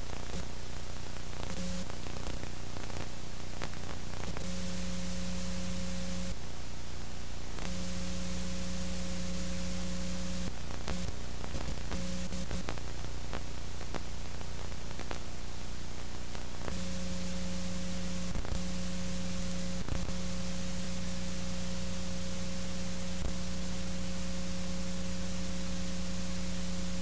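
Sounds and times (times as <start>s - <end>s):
low electrical hum: 0.0s - 27.0s
static hiss: 0.0s - 27.0s.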